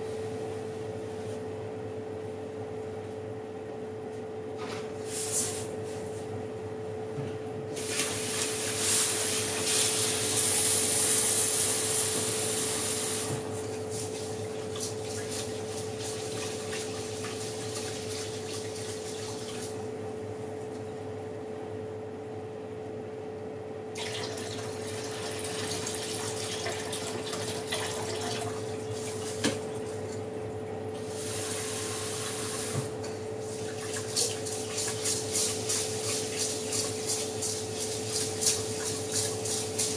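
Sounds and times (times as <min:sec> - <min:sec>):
oven humming: 0:00.0 - 0:39.9.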